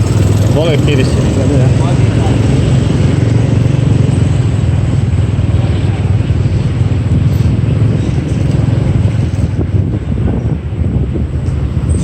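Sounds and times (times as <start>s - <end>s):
motorbike engine: 0.0s - 12.0s
road noise: 0.0s - 12.0s.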